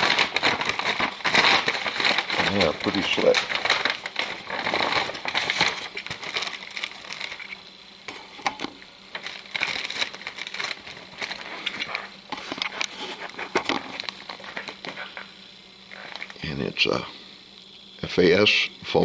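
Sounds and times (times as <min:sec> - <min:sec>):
packaging rustling and crinkling: 0:00.0 - 0:15.3, 0:15.9 - 0:16.4.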